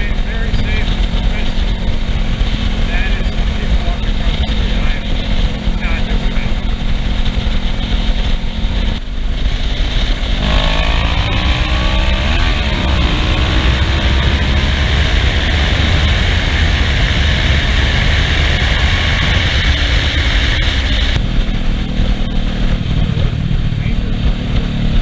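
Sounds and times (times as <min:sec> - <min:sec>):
motorcycle engine accelerating: 0:00.0 - 0:25.0
wind rush on microphone: 0:00.0 - 0:25.0.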